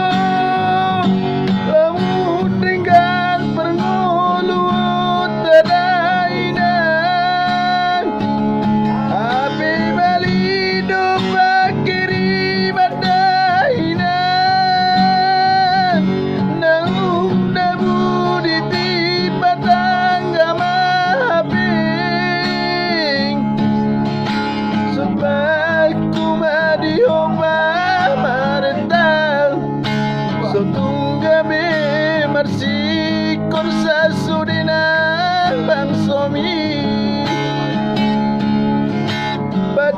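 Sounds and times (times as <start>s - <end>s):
plucked guitar: 0.0s - 39.9s.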